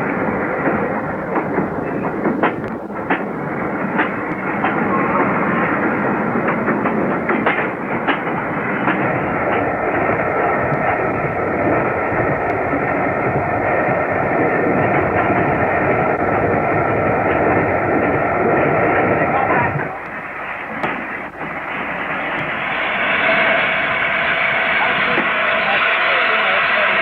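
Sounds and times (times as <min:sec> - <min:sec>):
steam train running: 0:00.0 - 0:27.0.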